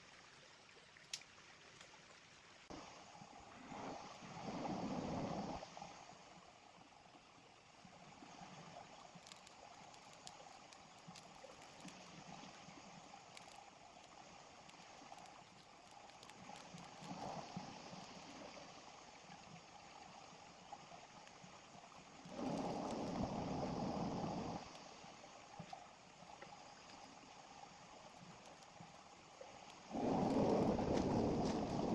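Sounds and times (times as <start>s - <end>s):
small river babbling: 0.0s - 4.2s, 5.8s - 31.9s.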